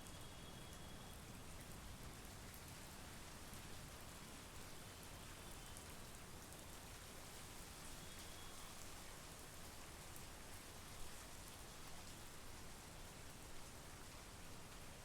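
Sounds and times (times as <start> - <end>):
steady rain hiss: 0.2 - 15.0.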